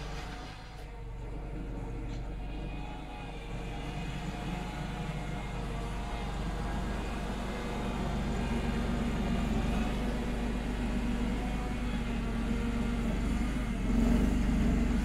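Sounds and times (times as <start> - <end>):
loader engine running under load: 0.0 - 15.0.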